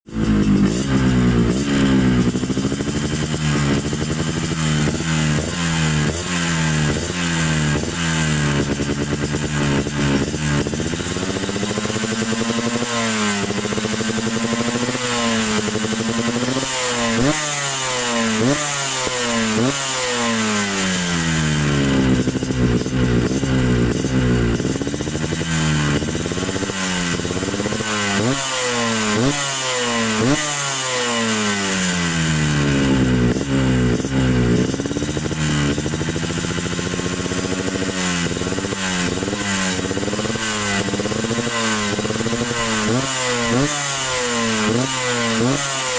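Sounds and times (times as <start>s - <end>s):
two-stroke motorcycle engine revving: 0.0s - 45.9s.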